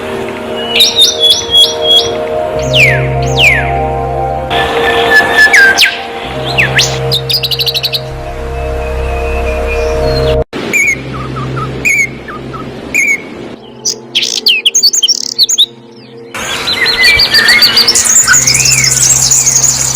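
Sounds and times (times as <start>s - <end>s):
high bird chirps: 0.6s - 3.9s, 4.8s - 19.9s.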